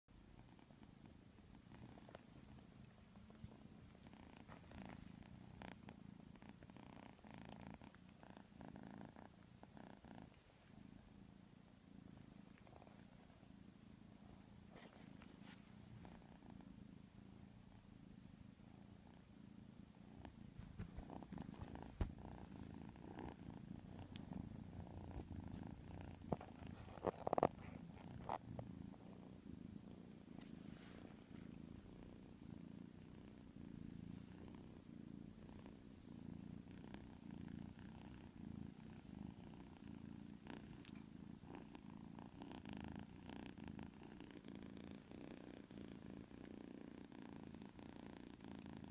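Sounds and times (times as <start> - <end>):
kitten snoring softly: 0.1 - 48.9.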